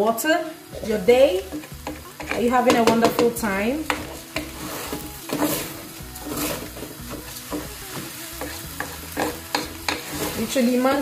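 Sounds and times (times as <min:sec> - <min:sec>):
rice sizzling in oil: 0:00.0 - 0:11.0
spatula scraping pan: 0:00.8 - 0:11.0.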